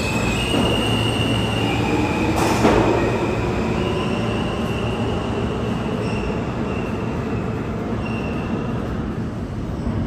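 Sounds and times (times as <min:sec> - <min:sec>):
train wheels squealing: 0:00.0 - 0:08.9
subway train rumbling: 0:00.0 - 0:10.0.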